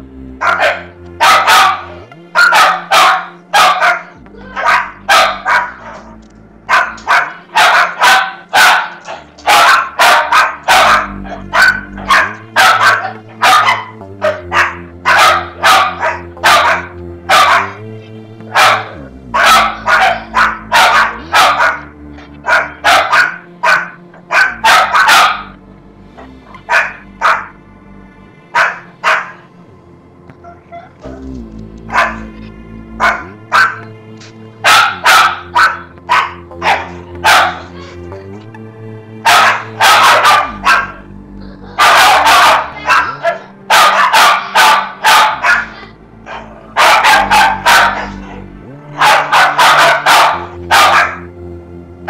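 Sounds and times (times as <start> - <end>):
slow drone music: 0.0 - 52.0
dog barking: 0.4 - 17.9, 18.5 - 25.6, 26.7 - 27.6, 28.5 - 29.4, 31.9 - 32.3, 33.0 - 33.8, 34.6 - 38.0, 39.2 - 41.1, 41.7 - 51.3.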